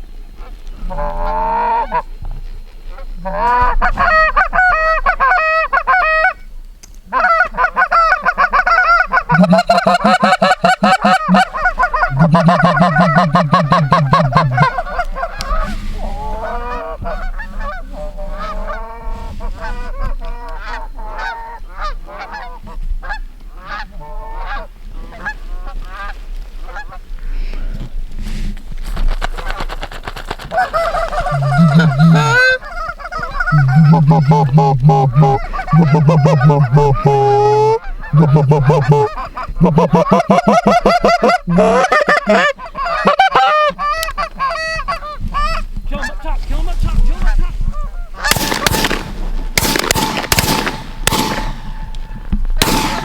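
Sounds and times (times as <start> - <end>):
lower steady goose call: 0.3 - 2.2, 2.9 - 27.8, 30.5 - 53.0
geese honking: 0.4 - 2.2, 2.9 - 6.4, 7.1 - 27.1, 29.4 - 53.0.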